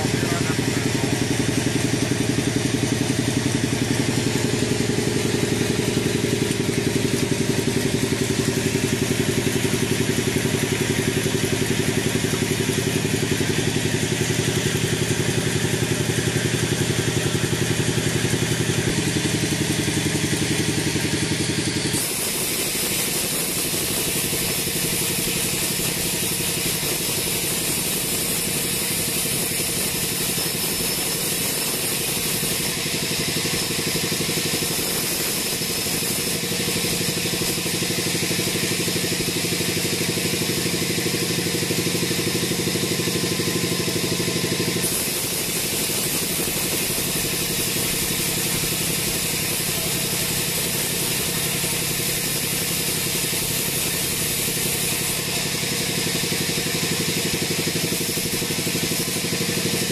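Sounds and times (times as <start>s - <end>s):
band saw motor drone: 0.0s - 59.9s
saw blade cutting hiss: 0.0s - 59.9s.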